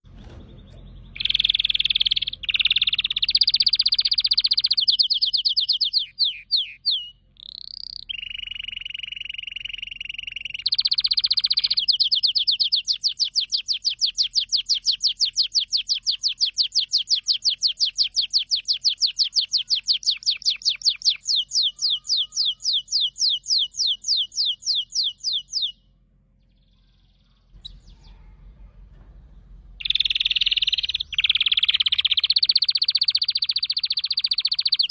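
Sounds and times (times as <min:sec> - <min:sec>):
canary singing: 0:00.5 - 0:28.6, 0:29.7 - 0:34.9.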